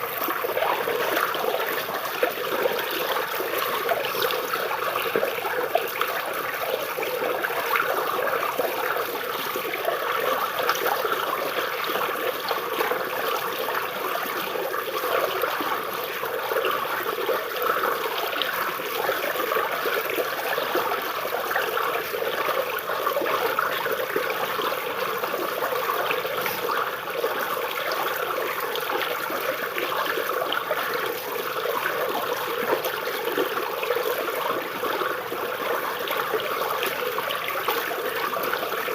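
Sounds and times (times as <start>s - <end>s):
stream babbling: 0.0s - 38.9s.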